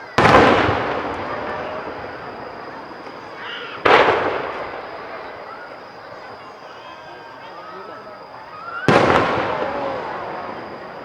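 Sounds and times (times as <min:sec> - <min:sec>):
firework shells bursting: 0:00.2 - 0:06.5, 0:08.1 - 0:11.0.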